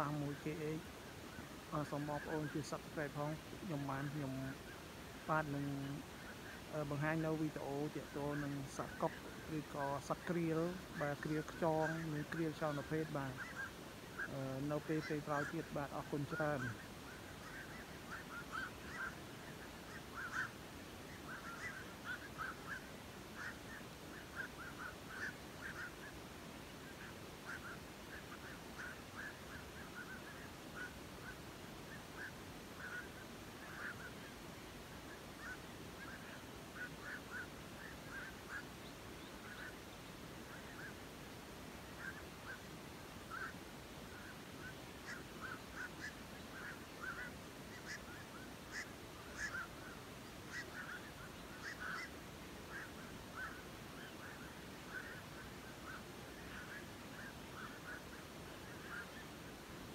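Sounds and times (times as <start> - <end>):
herons and storks honking: 0.0 - 59.9
low background noise: 0.0 - 59.9.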